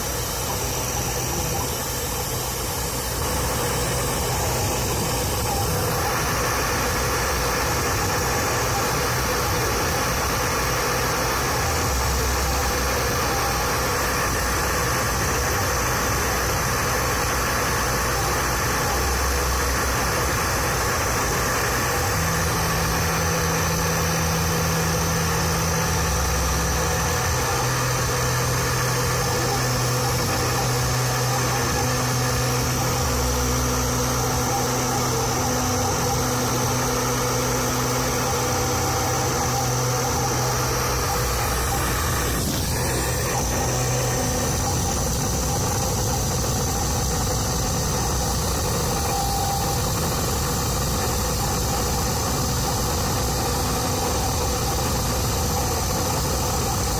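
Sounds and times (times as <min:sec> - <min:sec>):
low motor hum: 0:00.0 - 0:56.9
spindle high whine: 0:00.0 - 0:56.9.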